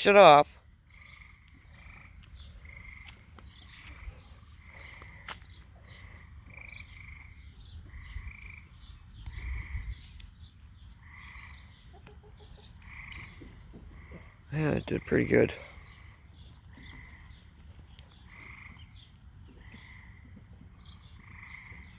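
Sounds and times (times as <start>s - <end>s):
frogs calling in chorus: 0.0s - 10.2s, 10.8s - 21.9s.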